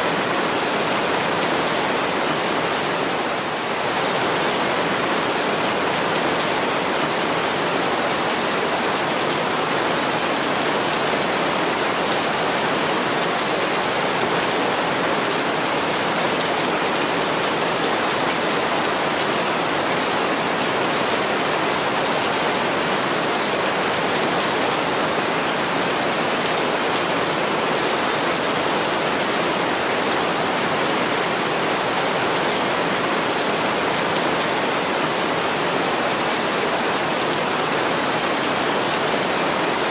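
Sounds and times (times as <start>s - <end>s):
heavy rain on a window: 0.1s - 39.9s.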